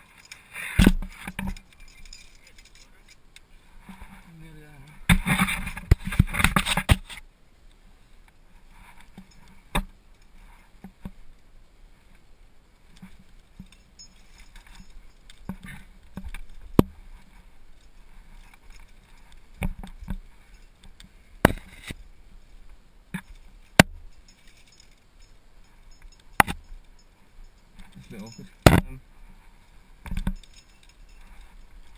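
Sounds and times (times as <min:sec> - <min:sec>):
metal climbing hardware clinking: 0:00.0 - 0:07.2, 0:08.9 - 0:10.6, 0:12.8 - 0:22.6, 0:23.2 - 0:29.0, 0:30.0 - 0:31.9.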